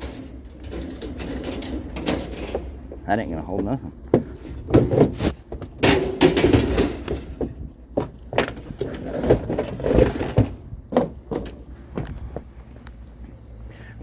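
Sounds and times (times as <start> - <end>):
junk knocking and rattling: 0.0 - 12.5.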